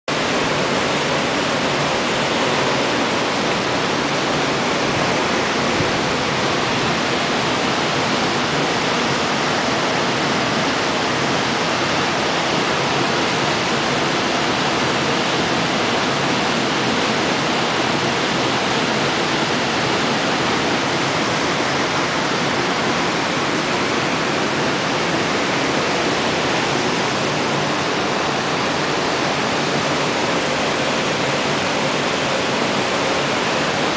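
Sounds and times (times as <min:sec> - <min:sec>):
waterfall splashing into pool: 0:00.1 - 0:33.9.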